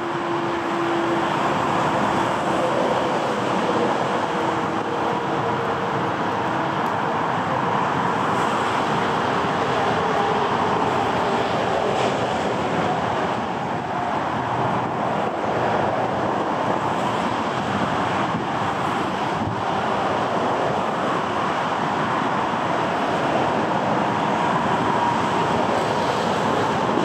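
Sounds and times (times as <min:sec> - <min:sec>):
jet engines running at low power: 0:00.0 - 0:27.0.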